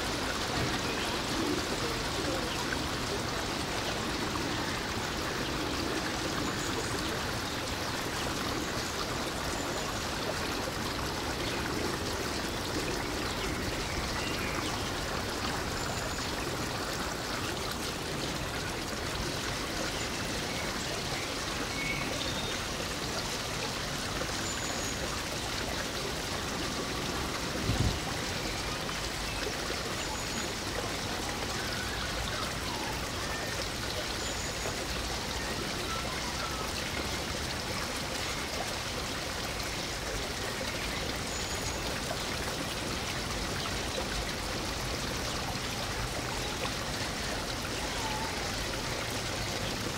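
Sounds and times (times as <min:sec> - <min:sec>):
running water rushing: 0:00.0 - 0:49.9.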